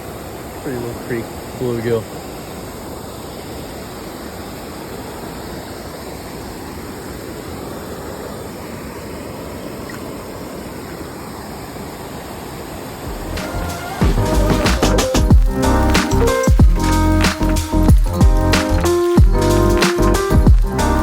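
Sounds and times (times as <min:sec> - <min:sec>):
creek water flowing: 0:00.0 - 0:21.0.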